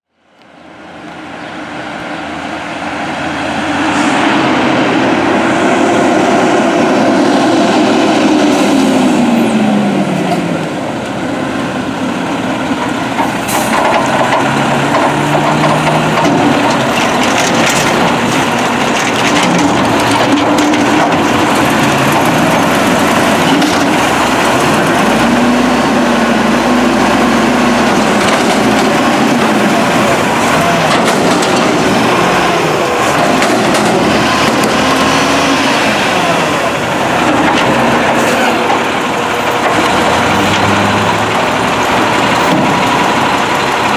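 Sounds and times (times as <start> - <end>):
garbage truck engine revving: 2.3 - 43.9.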